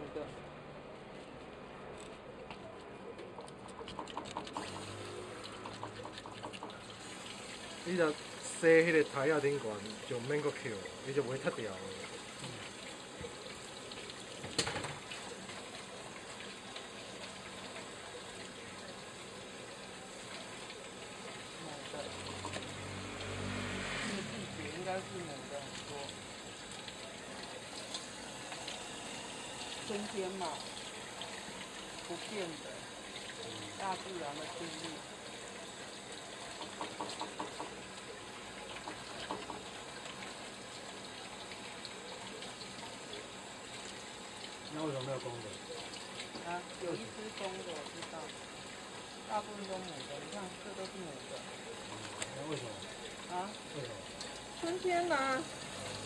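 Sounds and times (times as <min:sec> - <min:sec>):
running water: 0:03.0 - 0:56.0.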